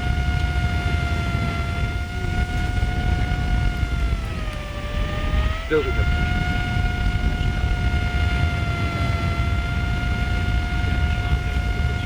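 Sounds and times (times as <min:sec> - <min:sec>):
rumble of moving air: 0:00.0 - 0:12.0
ventilation fan whine: 0:00.0 - 0:12.0.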